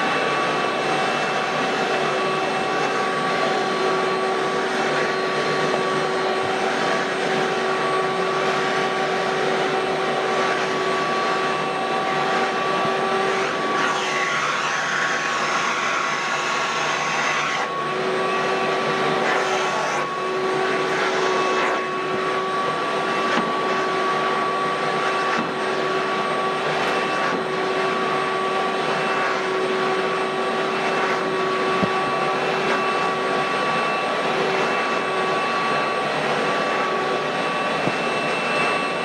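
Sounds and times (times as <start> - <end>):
shop vacuum running: 0.0 - 39.0.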